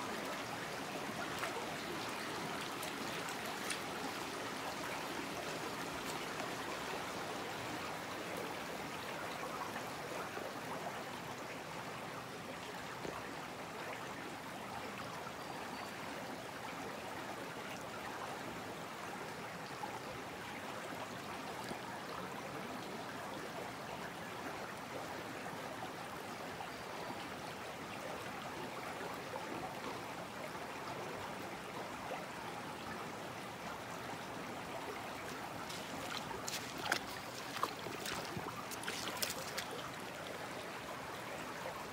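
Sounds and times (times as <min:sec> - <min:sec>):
creek babbling over stones: 0:00.0 - 0:41.9.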